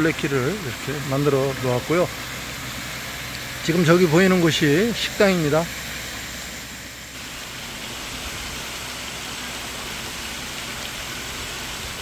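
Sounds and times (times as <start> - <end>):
fountain jets splashing water: 0.0 - 12.0.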